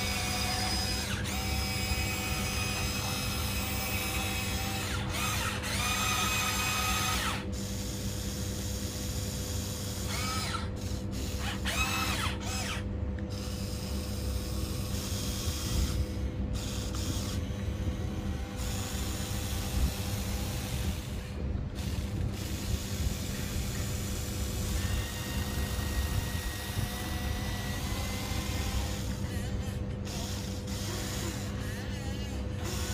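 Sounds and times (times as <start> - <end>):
rising and falling motor whines: 0.0 - 32.9
small electric motors and gearboxes: 0.0 - 32.9.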